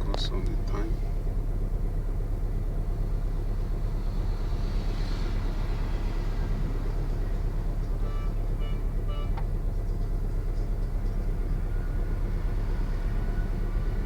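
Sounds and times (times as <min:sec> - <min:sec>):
car engine idling: 0:00.0 - 0:04.9, 0:05.5 - 0:14.0.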